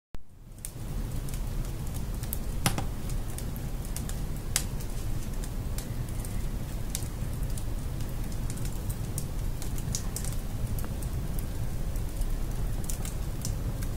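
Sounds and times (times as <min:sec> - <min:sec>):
wood fire crackling: 0:00.3 - 0:13.9.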